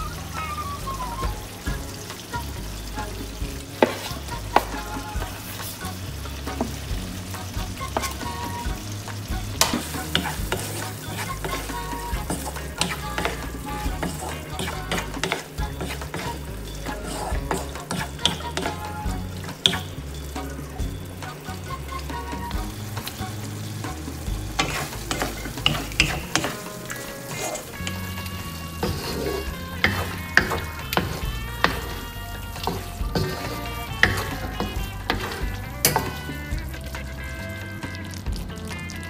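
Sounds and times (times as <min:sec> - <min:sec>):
mussels sizzling in a wok: 0:00.0 - 0:39.0
wooden spatula scraping a pan: 0:03.8 - 0:08.7, 0:09.6 - 0:20.6, 0:21.2 - 0:36.5.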